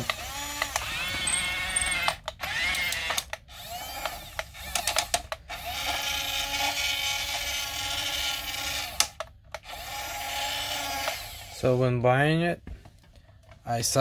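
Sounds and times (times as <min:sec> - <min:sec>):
toy gear motors whining: 0:00.0 - 0:11.6.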